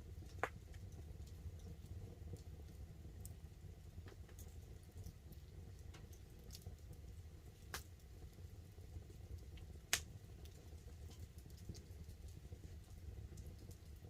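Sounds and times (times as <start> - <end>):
campfire crackling: 0.0 - 14.0
light rain on a tarp: 0.0 - 14.0.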